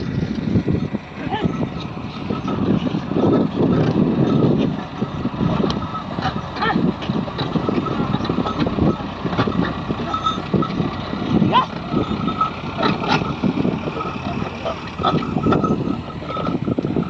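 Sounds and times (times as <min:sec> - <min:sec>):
diesel engine of backhoe loader: 0:00.0 - 0:17.0.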